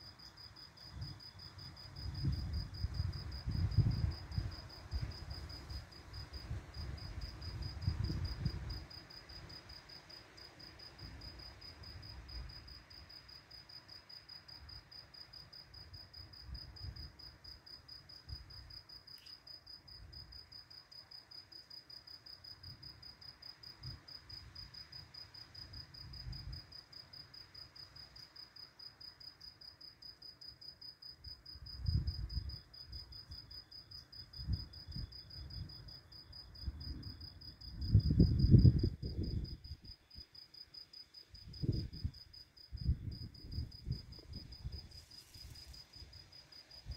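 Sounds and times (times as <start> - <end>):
cricket chirping: 0.0 - 46.9
faint second cricket chirping: 0.0 - 46.9.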